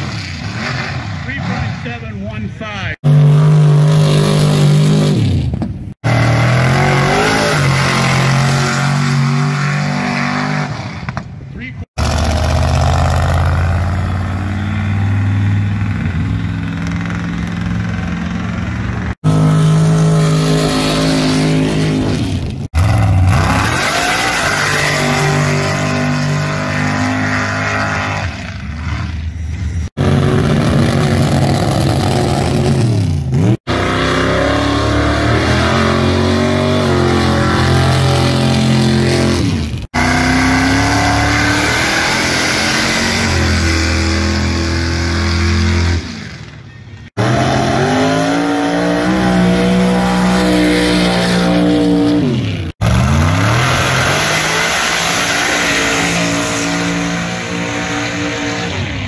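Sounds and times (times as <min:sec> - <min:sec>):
truck engines revving hard: 0:00.0 - 0:59.0.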